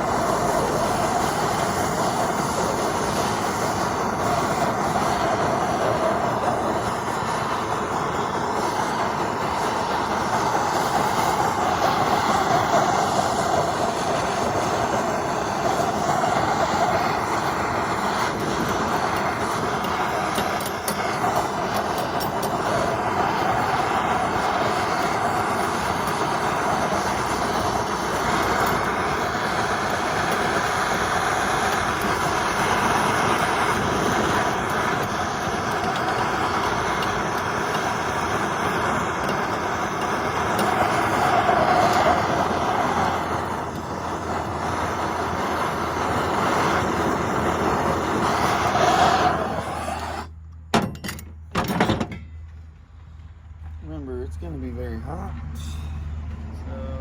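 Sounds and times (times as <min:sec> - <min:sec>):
gas torch flame hissing: 0:00.0 - 0:50.4.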